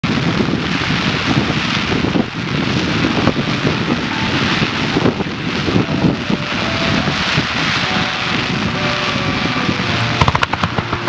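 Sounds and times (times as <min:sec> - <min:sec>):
fireworks booming: 0:00.0 - 0:11.0
fireworks crackling: 0:00.0 - 0:11.0.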